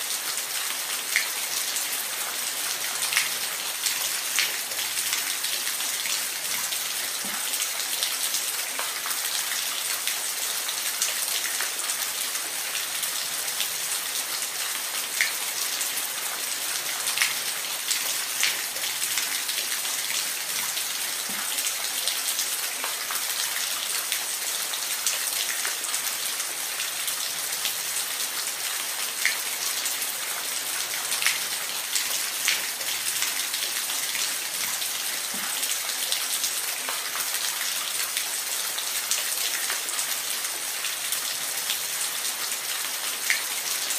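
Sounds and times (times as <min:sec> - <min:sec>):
water drips and splashes: 0:00.0 - 0:43.9.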